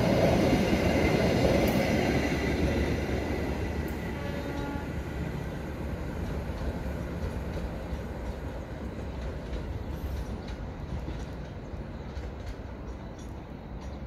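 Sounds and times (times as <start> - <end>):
train rumble and wheel noise: 0.0 - 14.0.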